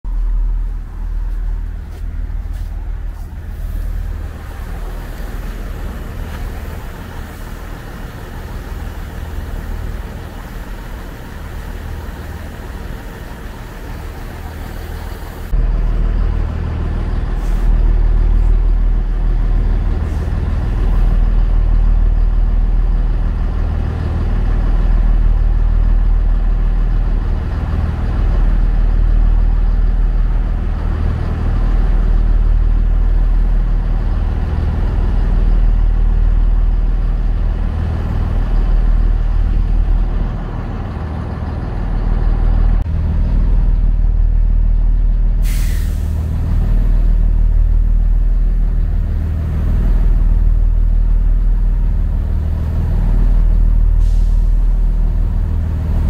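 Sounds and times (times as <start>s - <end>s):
passenger train rumbling past: 0.1s - 56.0s.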